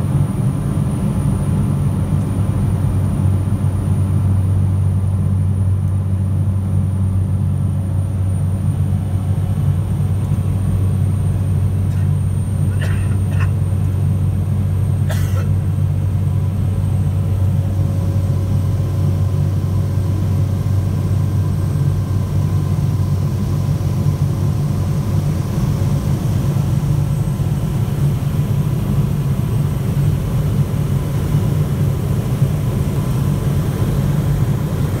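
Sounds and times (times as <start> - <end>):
aircraft engine drone: 0.0 - 35.0.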